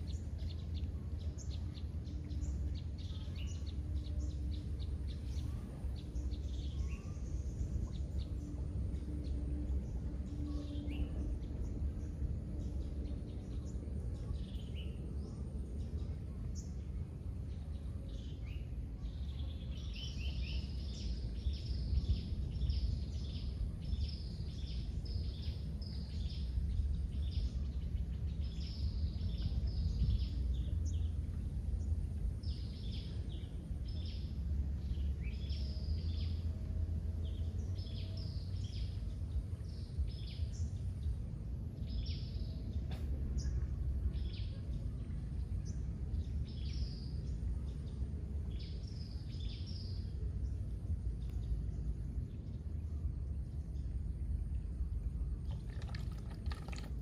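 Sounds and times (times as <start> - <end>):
birds chirping: 0.0 - 57.0
steady low rumble: 0.0 - 57.0.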